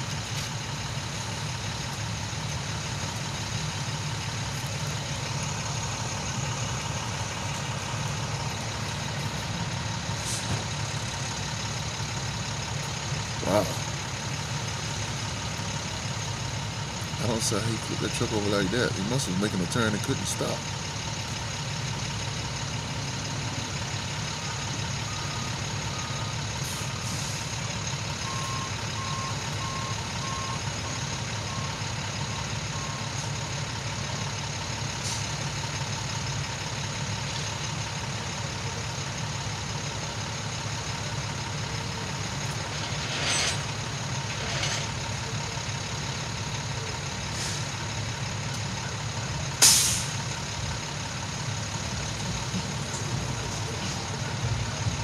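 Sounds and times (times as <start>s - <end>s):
heavy vehicle engine idling: 0.0s - 55.0s.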